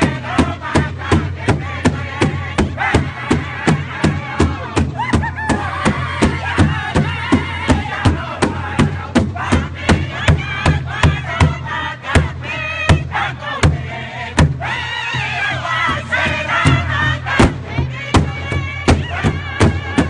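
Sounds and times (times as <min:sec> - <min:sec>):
high wavering group singing: 0:00.0 - 0:20.0
large drum steady beat: 0:00.0 - 0:20.0.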